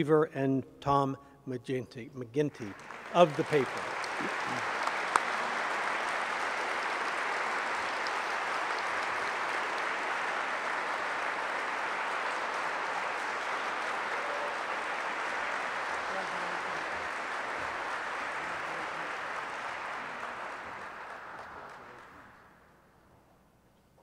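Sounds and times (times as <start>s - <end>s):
audience applauding: 2.5s - 22.9s.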